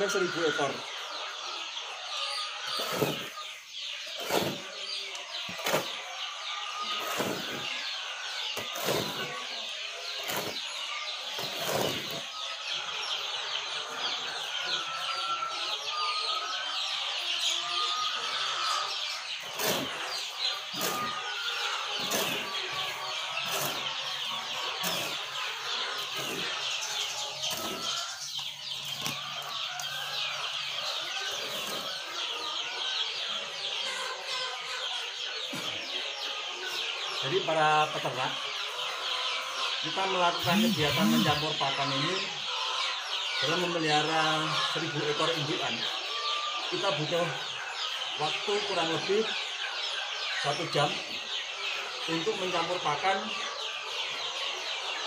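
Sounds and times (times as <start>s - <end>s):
hens clucking and chattering: 0.0s - 55.0s.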